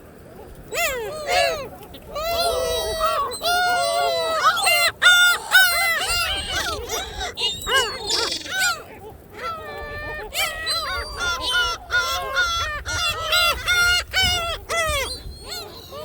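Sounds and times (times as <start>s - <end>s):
gulls calling: 0.1s - 16.0s.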